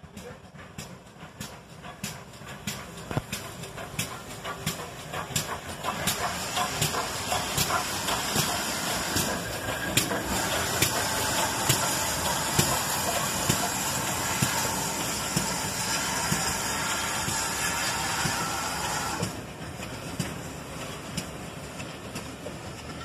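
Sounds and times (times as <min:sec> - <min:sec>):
locomotive exhaust beats: 0:00.0 - 0:23.0
steam locomotive hissing: 0:00.0 - 0:23.0.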